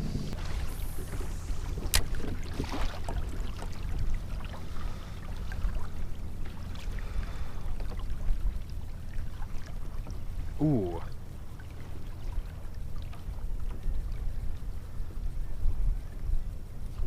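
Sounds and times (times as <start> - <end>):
low wind rumble on microphone: 0.0 - 17.0
water trickling and splashing: 0.3 - 16.2.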